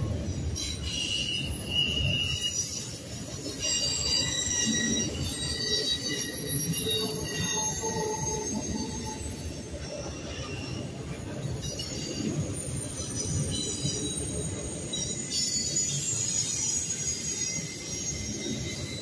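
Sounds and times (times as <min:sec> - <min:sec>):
freight train rolling past: 0:00.0 - 0:19.0
high wheel squeals: 0:00.3 - 0:19.0.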